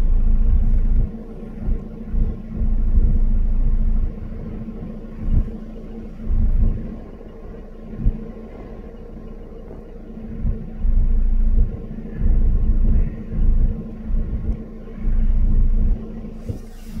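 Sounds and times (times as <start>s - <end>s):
car engine idling: 0.0s - 17.0s
heavy low rumbles on microphone: 0.0s - 17.0s.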